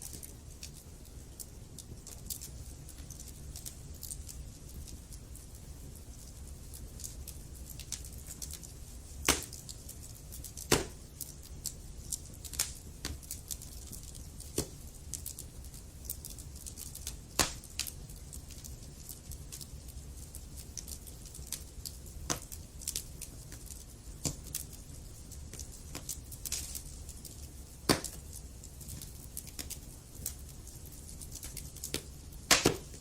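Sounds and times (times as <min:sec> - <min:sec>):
fire pops: 0:00.0 - 0:33.0
wood fire crackling: 0:00.0 - 0:33.0.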